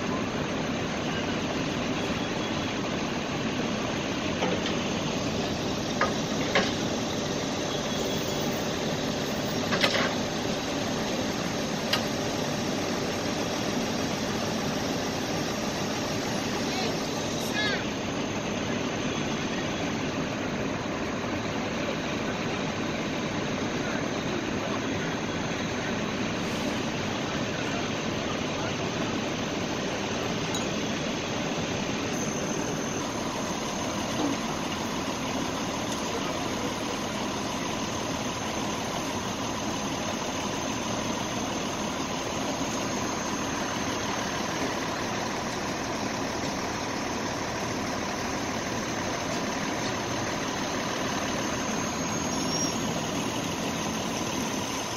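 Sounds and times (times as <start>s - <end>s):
diesel engines droning: 0.0s - 54.9s
faint steady whine: 0.0s - 54.9s.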